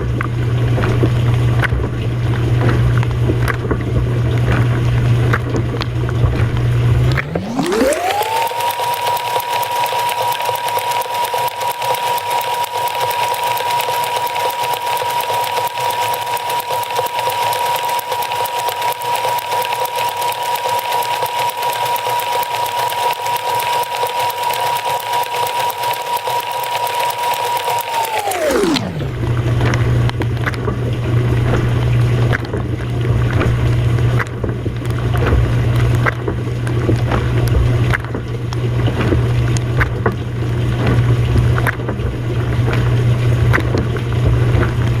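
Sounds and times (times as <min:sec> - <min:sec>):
dishwasher motor whine: 0:00.0 - 0:45.0.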